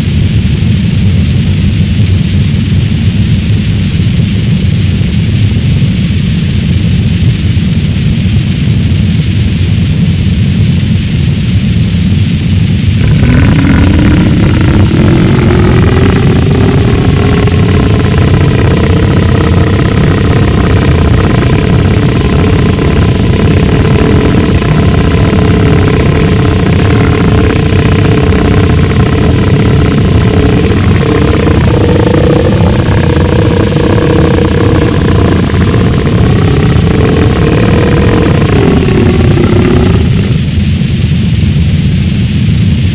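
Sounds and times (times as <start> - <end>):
harsh distorted noise music: 0.0 - 42.9.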